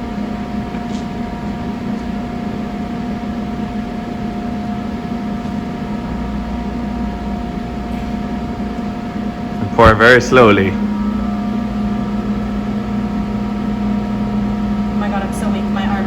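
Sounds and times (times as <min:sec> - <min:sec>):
mechanical hum with whining tones: 0:00.0 - 0:16.0.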